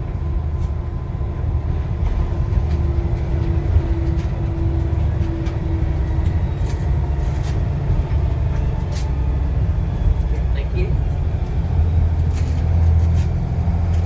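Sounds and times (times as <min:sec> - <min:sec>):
bus diesel engine droning: 0:00.0 - 0:14.0.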